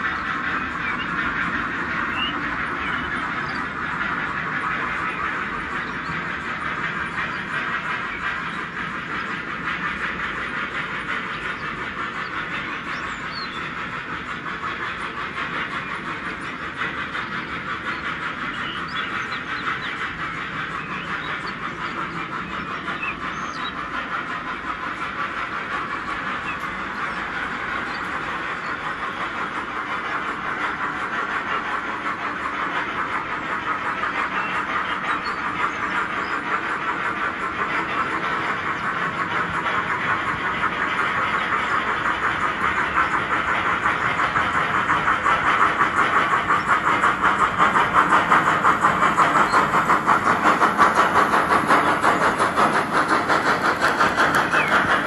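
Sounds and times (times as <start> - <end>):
model train wheels rattling on rails: 0.0 - 55.0.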